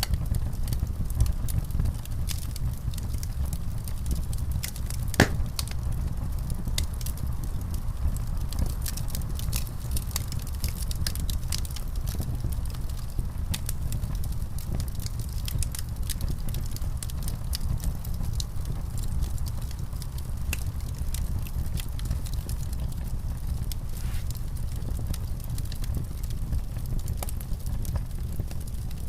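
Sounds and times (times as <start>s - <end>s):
fireplace fire crackling: 0.0s - 29.0s.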